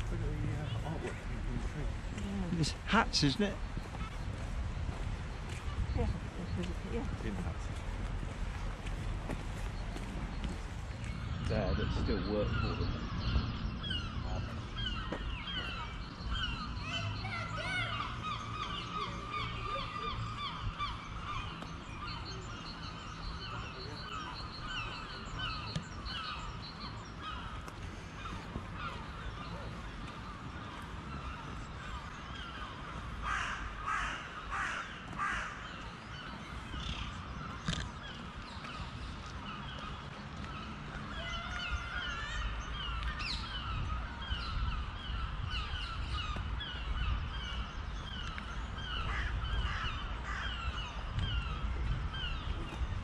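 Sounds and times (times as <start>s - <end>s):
birds chirping and cawing: 0.0s - 53.0s.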